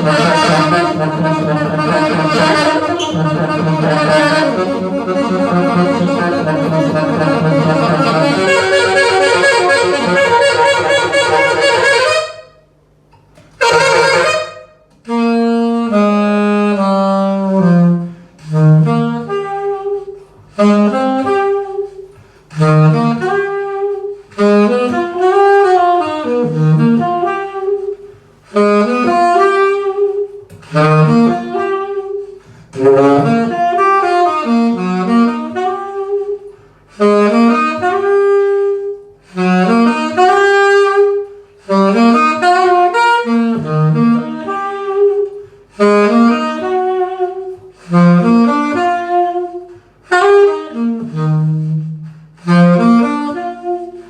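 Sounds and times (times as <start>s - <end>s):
saxophone playing jazz: 0.0s - 54.0s.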